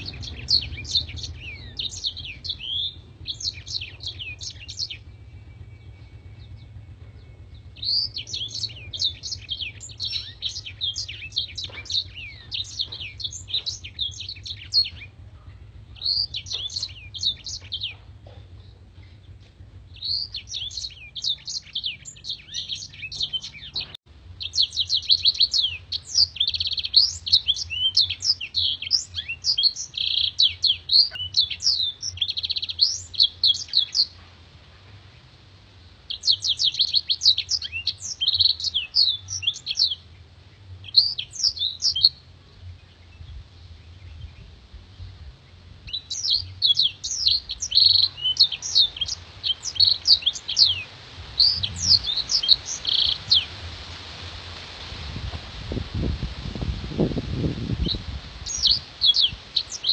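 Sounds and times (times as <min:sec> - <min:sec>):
canary singing: 0:00.0 - 0:34.2, 0:36.0 - 0:43.2, 0:45.2 - 0:53.8, 0:57.6 - 0:59.9.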